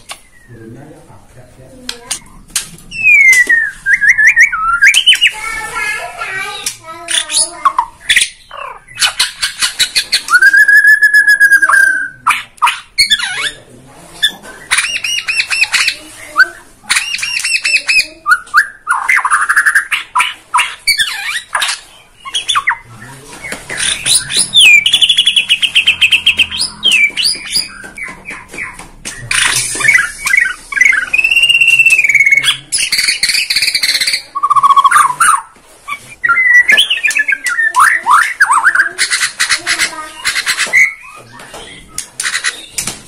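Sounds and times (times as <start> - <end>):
bird singing trills and whistles: 2.1 - 5.5, 7.1 - 13.6, 14.2 - 42.9.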